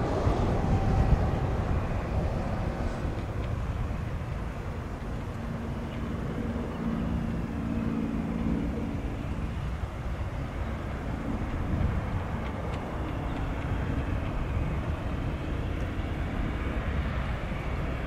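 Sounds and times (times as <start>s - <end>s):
jet engines rumbling: 0.0s - 18.0s
low hum: 0.0s - 18.0s.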